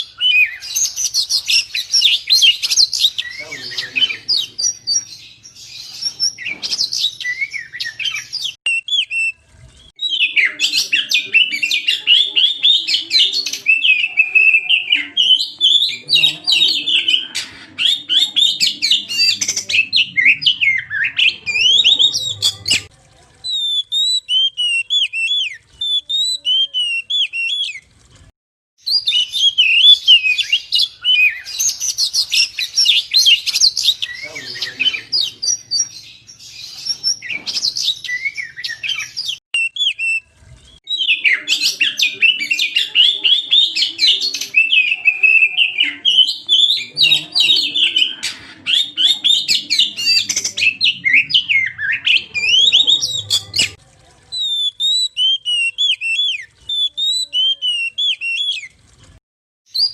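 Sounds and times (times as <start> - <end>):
bird singing whistled song: 0.0 - 22.9, 23.5 - 27.8, 28.8 - 53.8, 54.4 - 58.7, 59.7 - 59.9.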